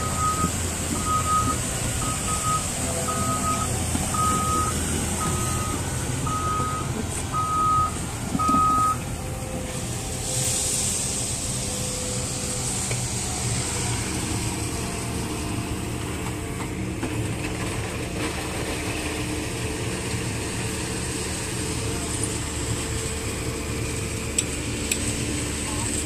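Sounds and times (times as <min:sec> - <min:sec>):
excavator diesel engine running: 0:00.0 - 0:26.0
hydraulics working: 0:00.0 - 0:26.0.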